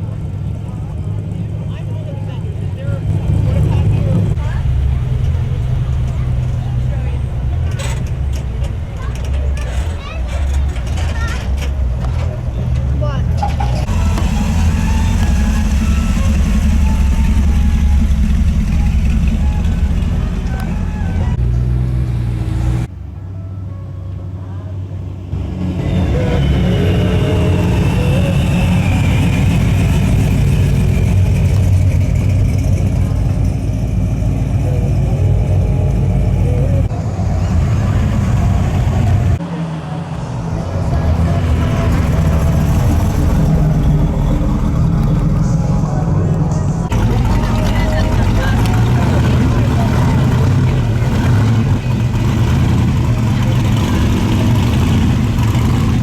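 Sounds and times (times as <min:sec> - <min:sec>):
car engine rumbling by: 0:00.0 - 0:56.0.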